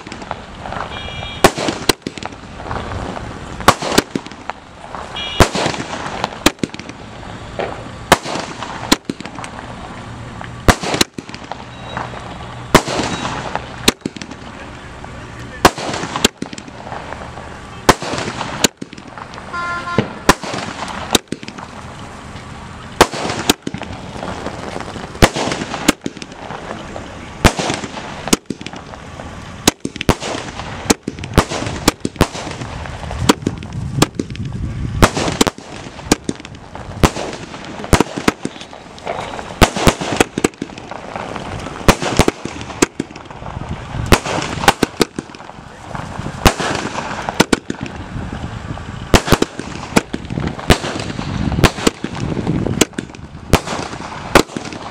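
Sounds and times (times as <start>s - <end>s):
firework bangs: 0.0s - 54.9s
firework crackle and hiss: 0.0s - 54.9s.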